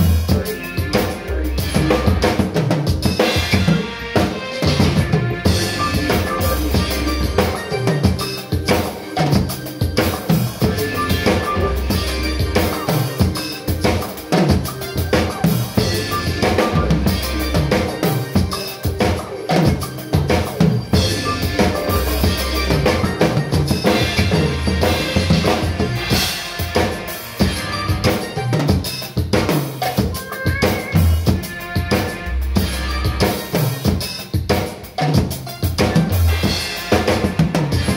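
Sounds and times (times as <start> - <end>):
acoustic drum kit groove: 0.0 - 37.9
recorded backing song: 0.0 - 37.9.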